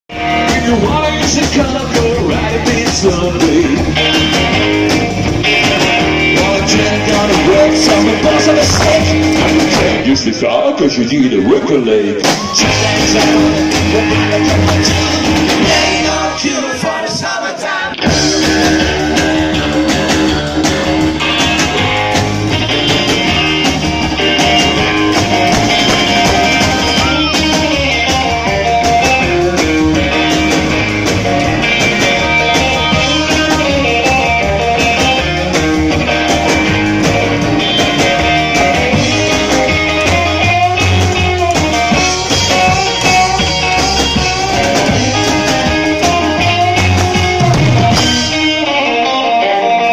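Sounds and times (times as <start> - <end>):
drum kit: 0.1 - 10.5, 12.2 - 49.9
electric guitar through an amp: 0.1 - 49.9
person singing: 0.3 - 4.3, 5.6 - 10.6, 11.8 - 21.9, 24.2 - 30.4, 31.7 - 35.6, 37.7 - 49.9.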